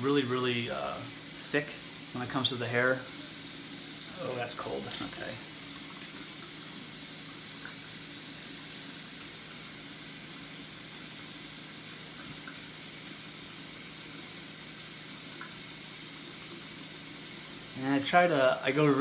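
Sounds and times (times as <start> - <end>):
tap water running: 0.0 - 19.0.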